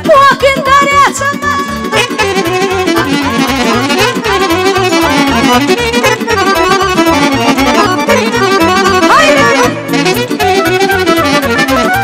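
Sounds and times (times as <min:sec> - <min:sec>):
accordion fast melody: 0:00.0 - 0:12.0.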